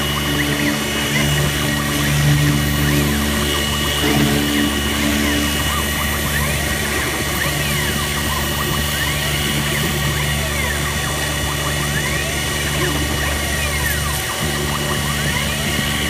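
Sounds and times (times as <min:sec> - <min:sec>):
mill motor hum: 0:00.0 - 0:16.0
whine gliding up and down: 0:00.0 - 0:16.0.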